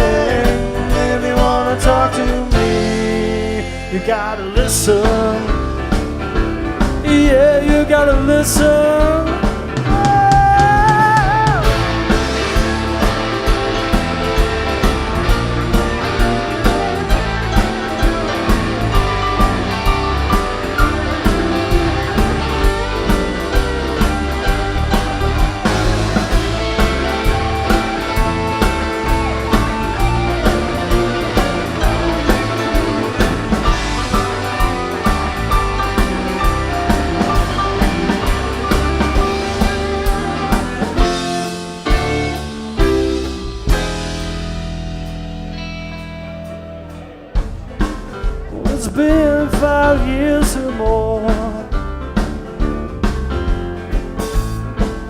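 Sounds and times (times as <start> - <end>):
drum kit steady beat: 0.0 - 55.0
electric guitar: 0.0 - 55.0.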